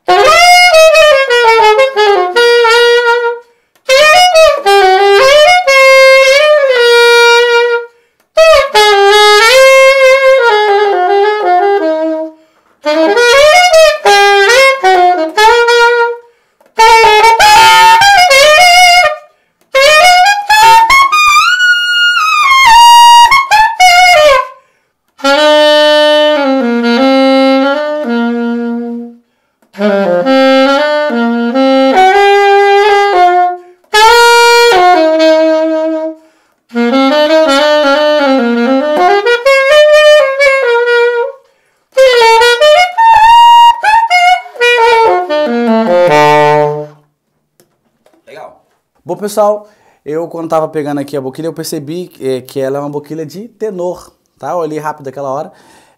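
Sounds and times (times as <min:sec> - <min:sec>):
alto saxophone solo: 0:00.0 - 0:47.2.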